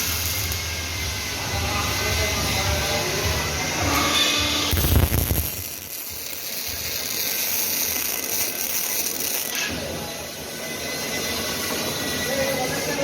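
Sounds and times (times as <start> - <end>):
machinery running with hiss: 0.0 - 13.0.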